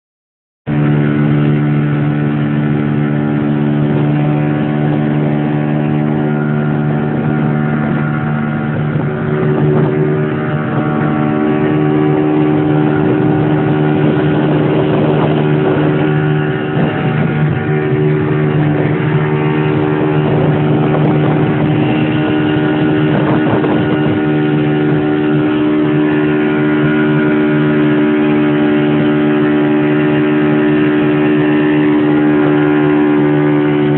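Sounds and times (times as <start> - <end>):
boat engine running: 0.7 - 33.9.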